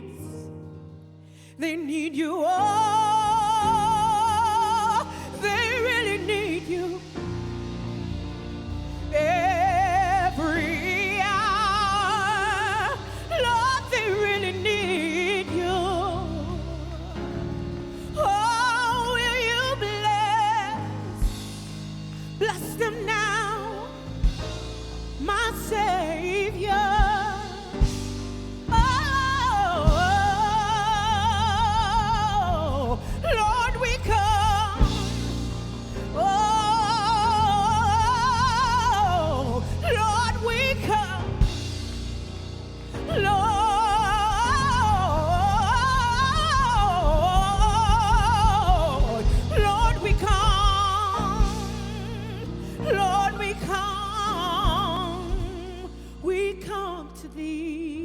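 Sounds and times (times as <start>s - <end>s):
instrumental accompaniment: 0.0s - 57.9s
person singing gospel: 0.0s - 58.0s.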